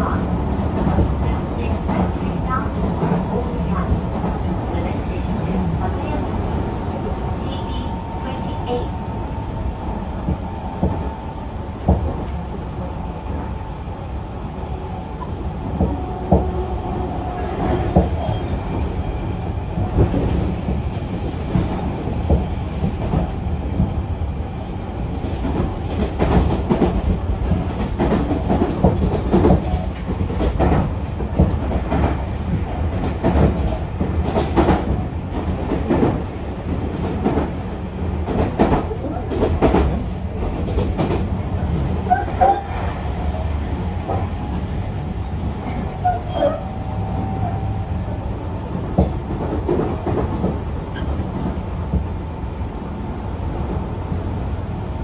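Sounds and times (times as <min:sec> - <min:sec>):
low rumble of wheels on rail: 0:00.0 - 0:55.0.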